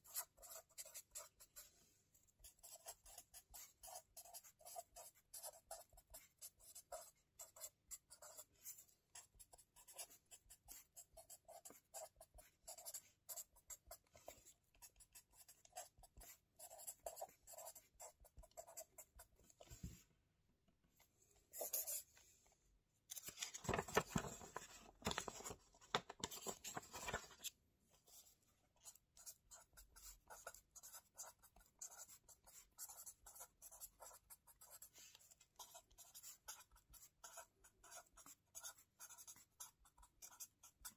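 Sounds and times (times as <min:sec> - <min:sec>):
pen scratching on paper: 0:00.0 - 0:19.4, 0:21.5 - 0:22.0, 0:28.0 - 0:40.9.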